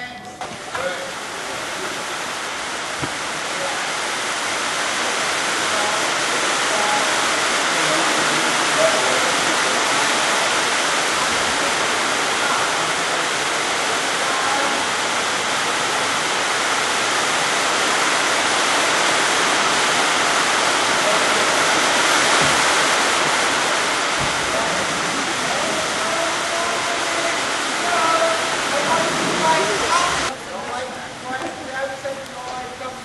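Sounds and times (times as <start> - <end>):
steady hiss: 0.2 - 33.0.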